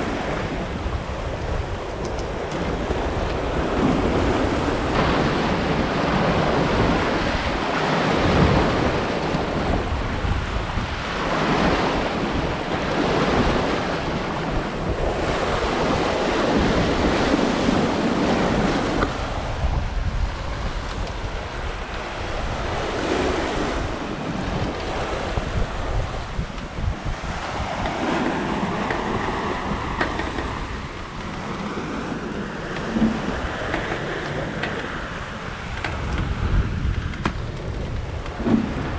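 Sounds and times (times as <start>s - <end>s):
sea water splashing along hull: 0.0s - 38.9s
wind buffeting microphone: 0.0s - 38.9s.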